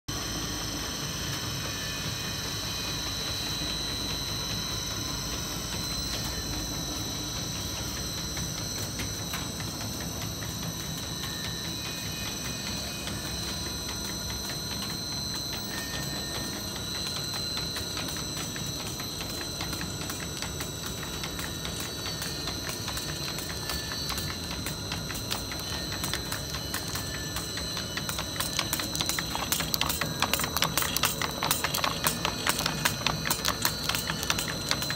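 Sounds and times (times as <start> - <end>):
high machine whine: 0.1 - 34.9
low machine hum: 0.1 - 34.9.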